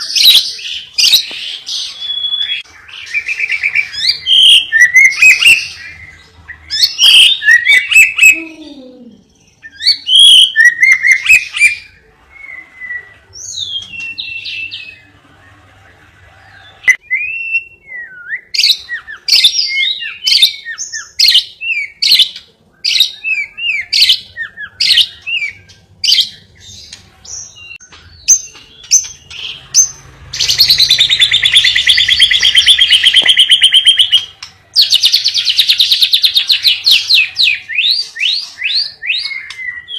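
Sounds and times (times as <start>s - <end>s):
cage bird singing: 0.0s - 39.9s.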